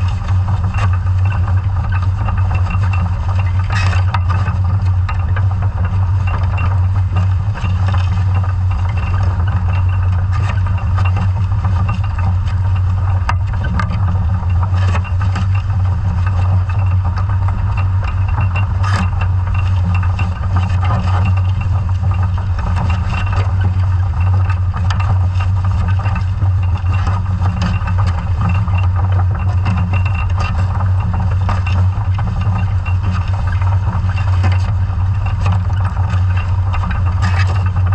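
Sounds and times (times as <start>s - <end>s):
light clicks and rattles: 0.0s - 37.9s
low underwater drone: 0.0s - 37.9s
water wash: 0.0s - 37.9s.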